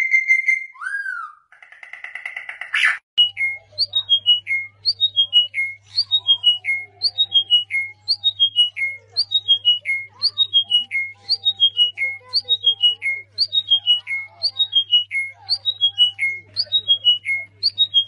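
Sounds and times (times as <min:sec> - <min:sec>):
songbird singing: 0:03.2 - 0:18.0.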